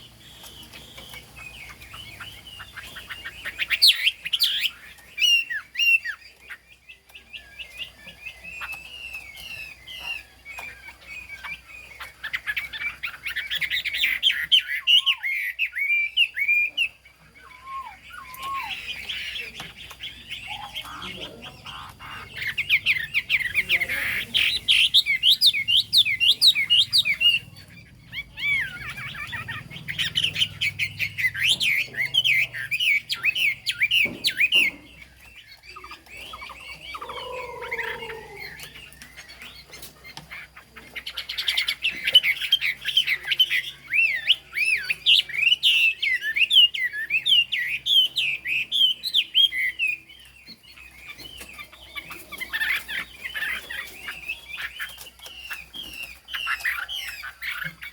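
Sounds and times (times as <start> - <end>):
bird warbling song: 0.0 - 57.9.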